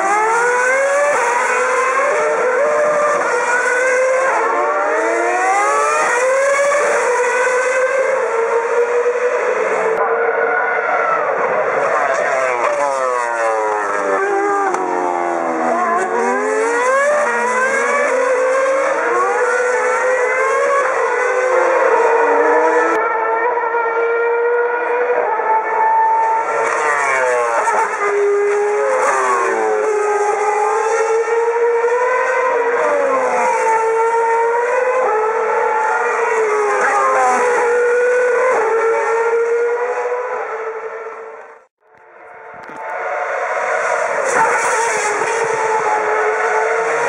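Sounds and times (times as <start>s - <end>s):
racing car engines: 0.0s - 47.0s.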